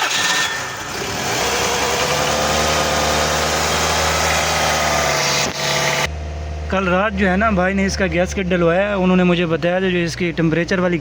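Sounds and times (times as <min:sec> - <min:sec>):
car engine running: 0:00.7 - 0:10.3.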